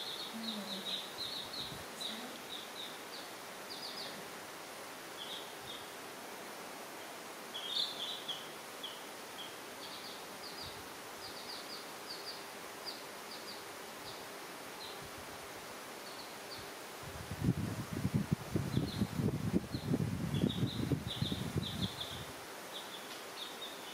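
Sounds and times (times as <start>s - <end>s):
chicks peeping: 0.0s - 4.3s, 5.1s - 6.0s, 7.0s - 15.1s, 16.0s - 16.7s, 18.0s - 23.9s
steady background hiss: 0.0s - 23.9s.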